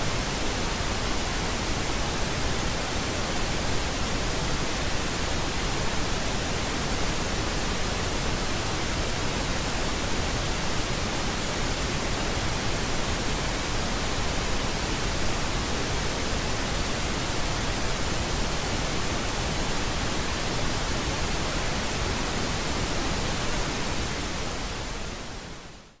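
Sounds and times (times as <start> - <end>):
pink noise hiss: 0.0 - 26.0.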